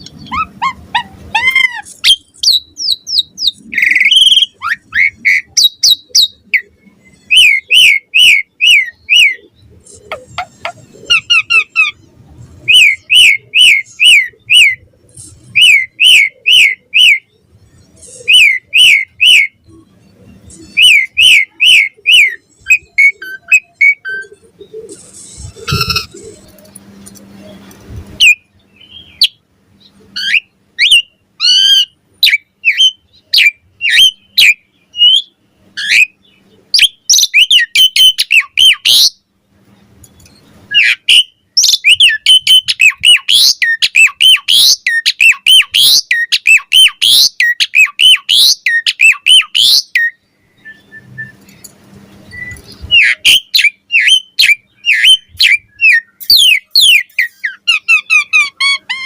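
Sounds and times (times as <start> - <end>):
starling whistling and chattering: 0.0 - 12.0, 12.6 - 26.6, 28.2 - 29.4, 30.2 - 39.2, 40.7 - 59.0.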